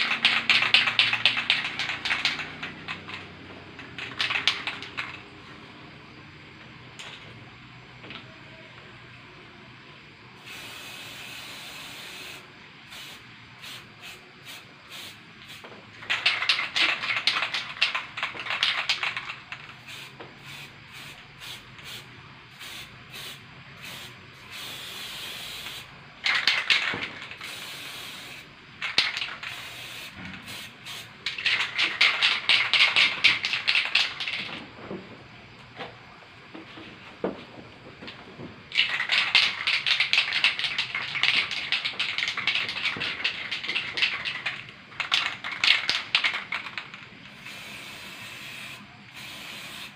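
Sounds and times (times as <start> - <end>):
spray paint can hissing: 0.0 - 5.3, 10.4 - 34.5, 38.7 - 49.9.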